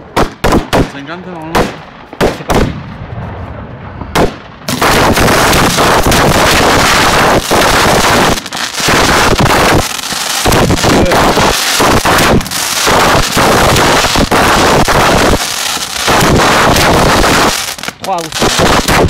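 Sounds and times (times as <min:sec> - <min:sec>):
fireworks launching and bursting: 0:00.0 - 0:19.0.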